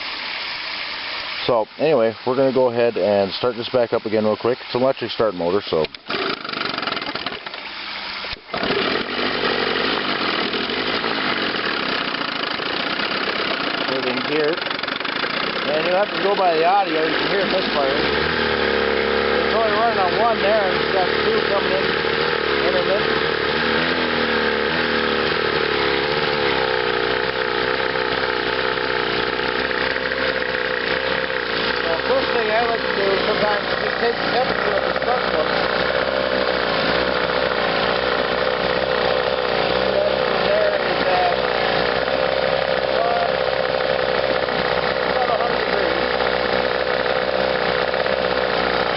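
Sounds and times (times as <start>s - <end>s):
electric starter cranking: 0.0s - 48.9s
outboard motor misfiring: 0.0s - 48.9s.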